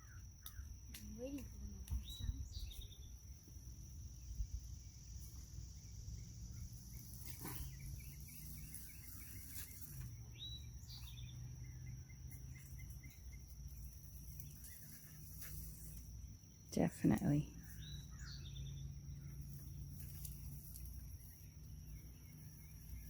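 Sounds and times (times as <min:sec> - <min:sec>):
high-pitched insect drone: 0:00.0 - 0:23.0
bird chirping: 0:02.0 - 0:03.3, 0:04.2 - 0:23.0.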